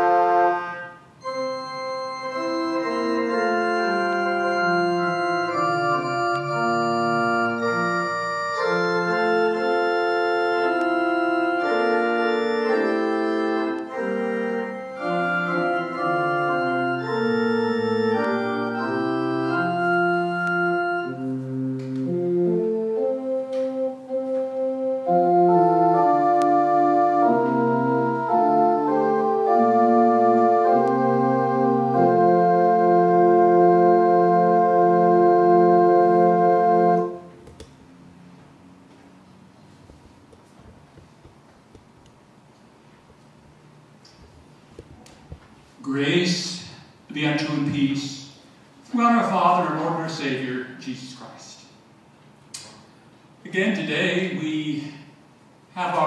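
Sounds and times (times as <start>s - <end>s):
church organ chords: 0.0s - 41.7s, 45.8s - 52.1s.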